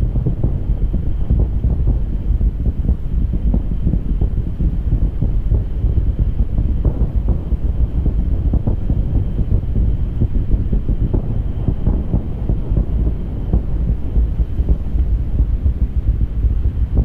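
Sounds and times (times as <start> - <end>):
rocket engines rumbling and crackling: 0.0 - 17.0.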